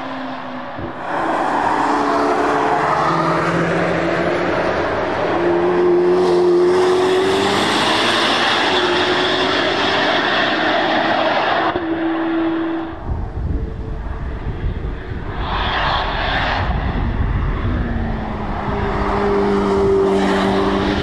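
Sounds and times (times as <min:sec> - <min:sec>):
car engine revving high: 0:00.0 - 0:13.1, 0:16.6 - 0:21.0.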